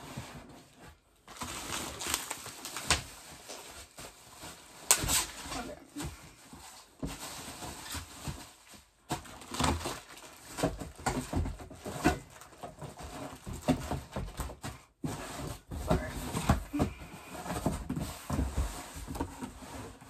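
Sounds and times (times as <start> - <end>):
rustling of packaging: 0.0 - 20.0.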